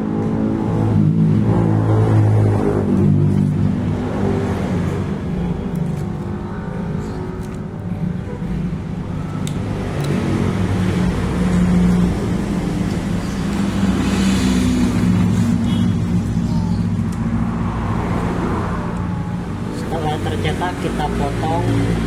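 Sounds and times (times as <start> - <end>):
engine low hum: 0.0 - 22.0.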